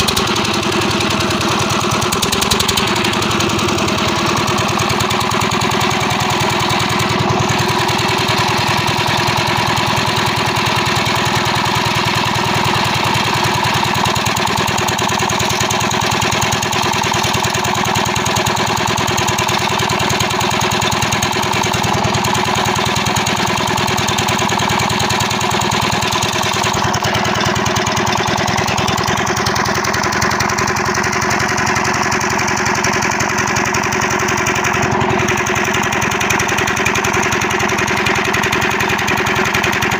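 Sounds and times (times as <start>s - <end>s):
diesel engine knocking steadily: 0.0s - 39.9s.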